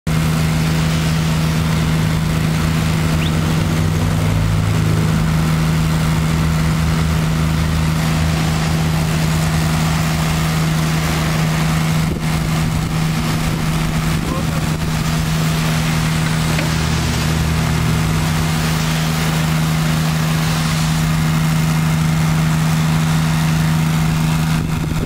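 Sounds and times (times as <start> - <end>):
diesel engine humming: 0.1 - 25.0
high-pressure water hissing: 0.1 - 25.0.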